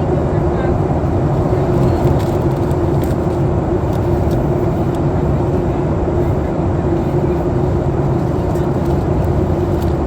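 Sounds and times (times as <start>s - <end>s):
airliner cabin roar: 0.0s - 10.0s.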